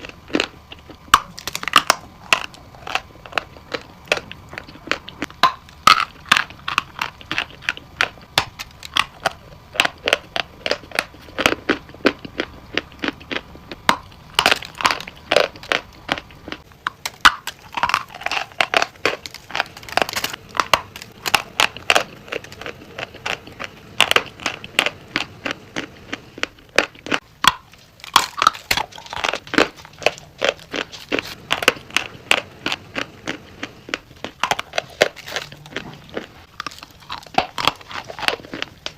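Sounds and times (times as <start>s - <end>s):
brittle material crunching: 0.0s - 38.9s.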